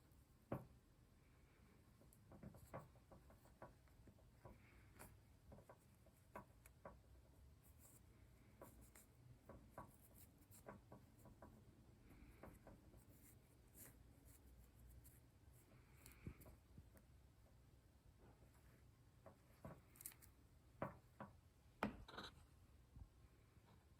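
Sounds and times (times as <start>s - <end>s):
low room hum: 0.0s - 23.9s.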